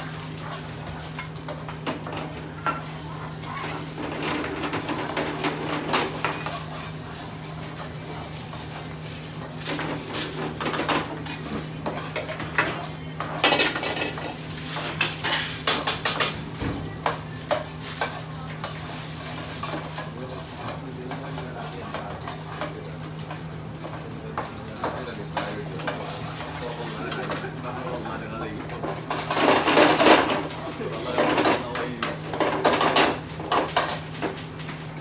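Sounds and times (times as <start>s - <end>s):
food sizzling: 0.0s - 35.0s
metal utensils clattering on pans: 0.0s - 35.0s.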